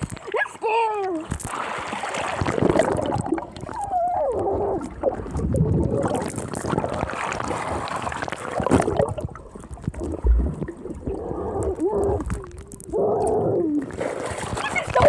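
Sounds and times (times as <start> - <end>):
small crackles: 0.0 - 15.0
water splashing and gurgling: 0.0 - 15.0.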